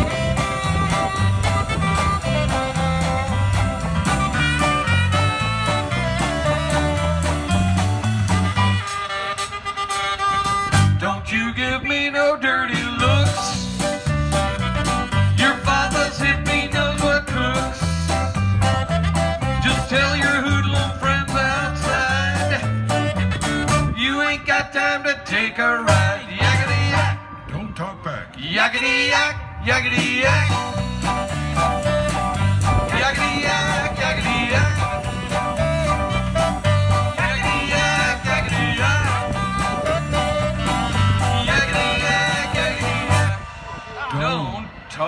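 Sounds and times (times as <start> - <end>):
wavering lead melody: 0.0 - 11.1, 13.0 - 24.0, 29.4 - 45.0
electric guitar: 0.0 - 11.3, 12.7 - 24.0, 29.4 - 45.0
drums: 0.0 - 24.2, 25.8 - 27.2, 29.4 - 45.0
bass line: 0.0 - 45.0.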